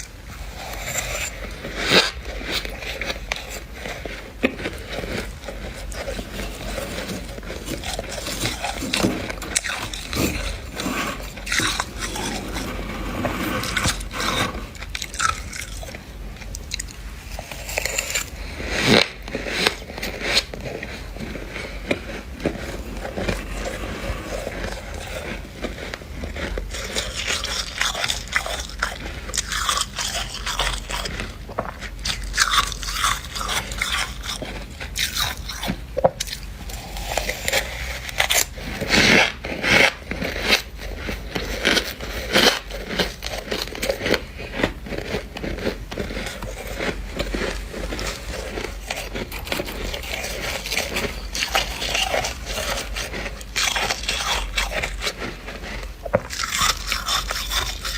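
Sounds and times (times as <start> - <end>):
frost being chewed crunching: 0.0 - 57.9.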